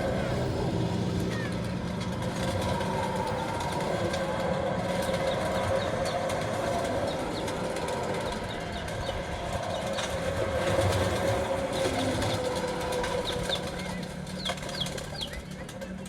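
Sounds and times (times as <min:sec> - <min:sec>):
low drone with held tone: 0:00.0 - 0:16.0.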